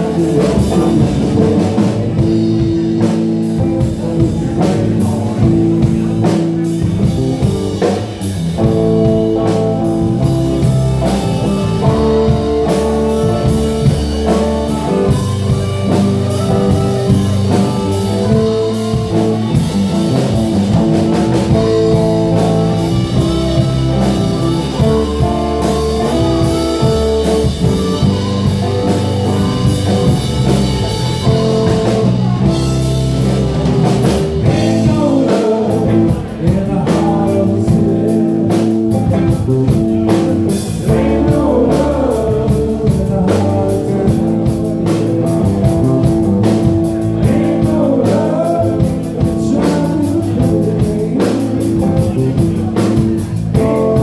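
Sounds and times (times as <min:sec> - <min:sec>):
live blues band playing: 0:00.0 - 0:54.0.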